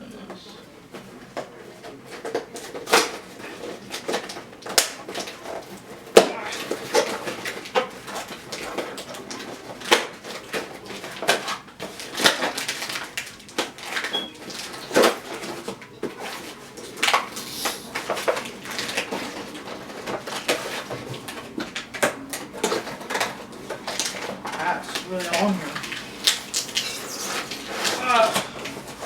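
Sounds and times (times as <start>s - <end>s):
packaging tearing and rustling: 1.8s - 29.0s.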